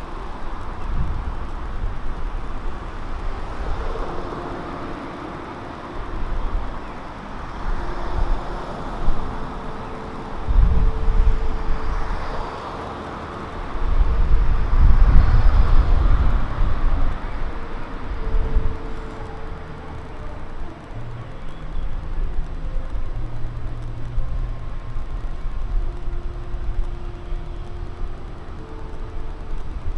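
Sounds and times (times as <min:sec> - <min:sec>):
heavy low rumble: 0:00.0 - 0:29.9
street hum: 0:00.0 - 0:29.9
vehicles passing by: 0:00.0 - 0:29.9.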